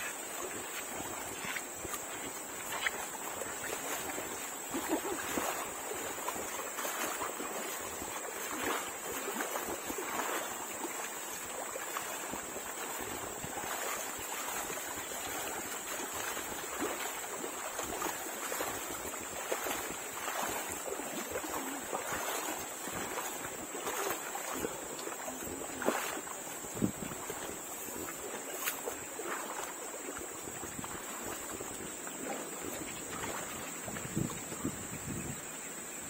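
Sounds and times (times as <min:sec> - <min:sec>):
water splashing with footsteps: 0:00.0 - 0:35.4.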